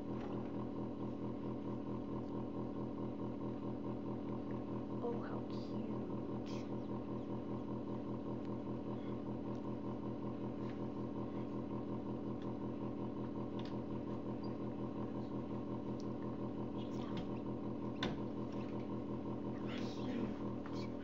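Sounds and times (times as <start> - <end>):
fan motor pulsing hum: 0.0 - 21.0.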